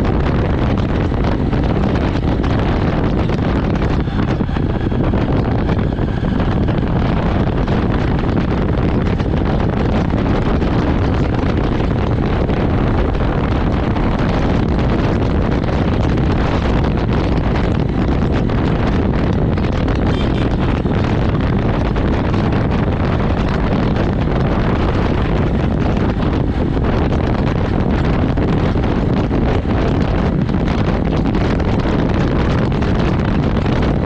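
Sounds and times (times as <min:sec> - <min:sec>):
motorcycle engine running: 0:00.0 - 0:34.0
wind rush on microphone: 0:00.0 - 0:34.0.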